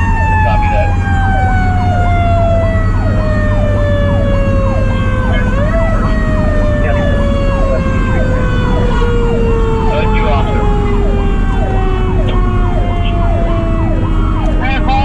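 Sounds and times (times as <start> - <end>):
electronic siren yelping: 0.0 - 15.0
fire truck engine rumble: 0.0 - 15.0
mechanical siren wailing: 0.0 - 15.0.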